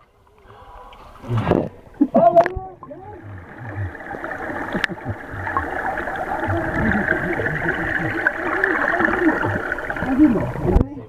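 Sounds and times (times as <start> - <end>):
water bubbling and gurgling: 0.1 - 11.0
underwater churning water rush: 0.6 - 11.0.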